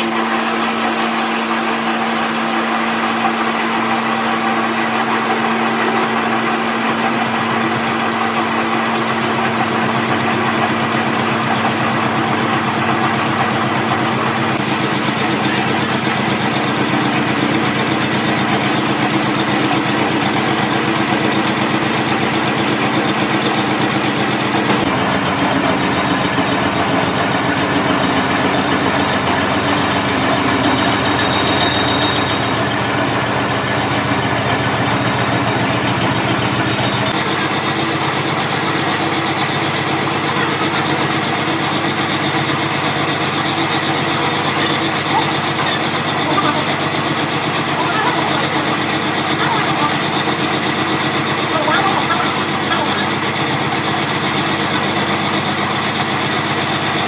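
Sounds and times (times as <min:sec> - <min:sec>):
machine motor running: 0:00.0 - 0:57.0.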